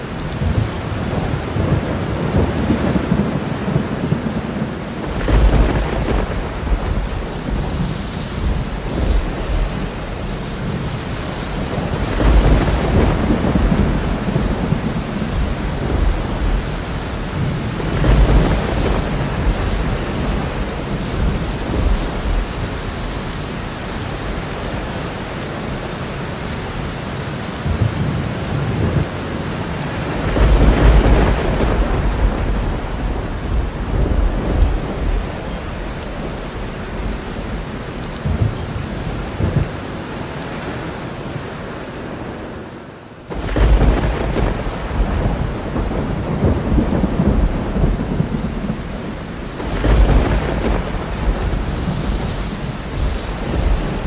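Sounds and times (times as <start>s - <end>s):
rolling thunder rumbling: 0.0s - 25.9s, 27.6s - 40.4s, 43.3s - 54.0s
rain hissing: 0.0s - 54.0s.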